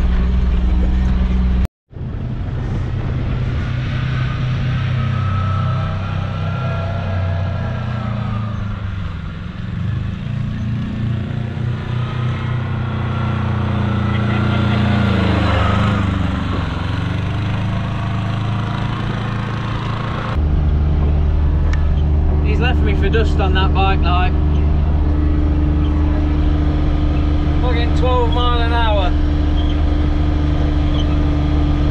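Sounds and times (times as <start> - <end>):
off-road vehicle engine running: 0.0 - 31.9.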